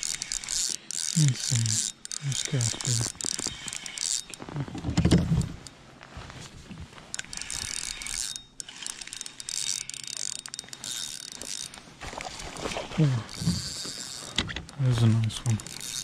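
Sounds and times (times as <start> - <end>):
fishing reel cranking: 0.0 - 5.6, 7.1 - 12.3, 13.0 - 16.0.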